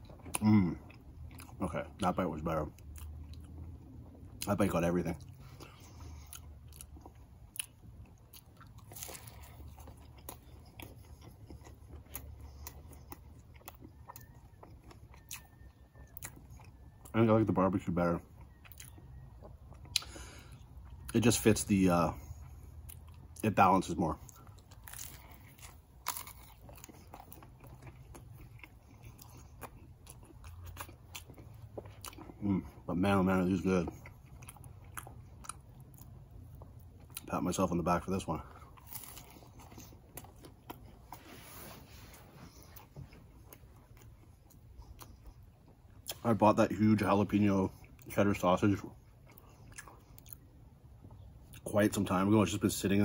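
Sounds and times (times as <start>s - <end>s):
person chewing: 0.0s - 1.7s, 2.7s - 17.1s, 18.3s - 46.2s, 48.9s - 51.7s
faint low hum: 0.0s - 53.0s.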